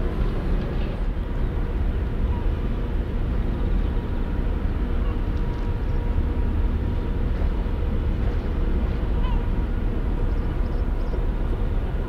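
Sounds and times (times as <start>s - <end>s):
faint hum: 0.0s - 12.0s
ship engines deep rumble: 0.0s - 12.0s.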